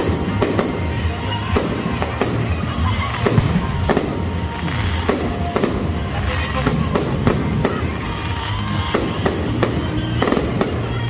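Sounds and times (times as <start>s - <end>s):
background music: 0.0s - 11.0s
fireworks bangs: 0.0s - 11.0s.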